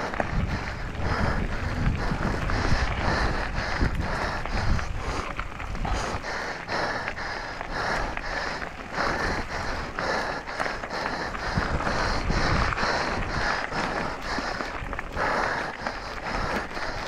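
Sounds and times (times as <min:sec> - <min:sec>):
bike tyres rolling on gravel: 0:00.0 - 0:17.0
person breathing hard: 0:00.0 - 0:17.0
wind buffeting microphone: 0:00.0 - 0:17.0.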